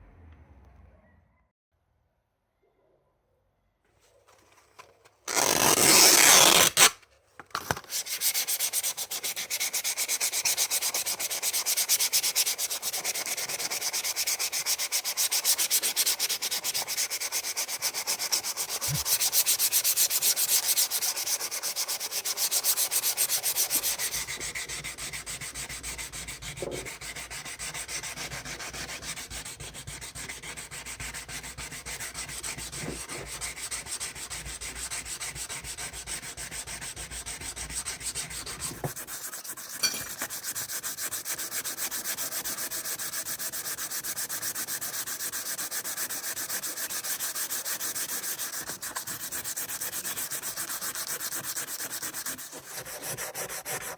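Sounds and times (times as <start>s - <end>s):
hand sanding metal: 7.9s - 53.9s.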